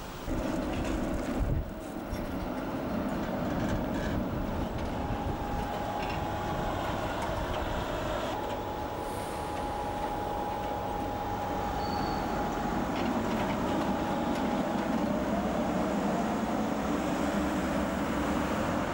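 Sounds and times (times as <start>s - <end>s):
tram wheels rumbling on rails: 0.0s - 18.9s
thin steady whine: 0.3s - 18.4s.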